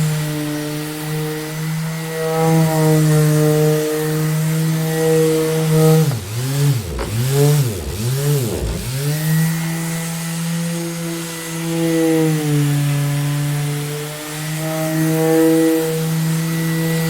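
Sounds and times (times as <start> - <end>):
electric orbital sander whining: 0.0 - 17.0.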